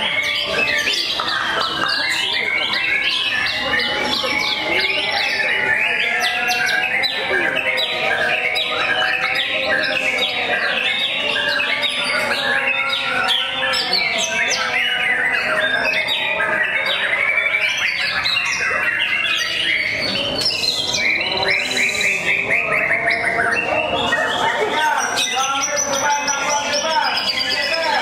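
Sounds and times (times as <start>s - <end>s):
fast high bird trill: 0.0s - 28.0s
songbirds singing: 0.0s - 28.0s.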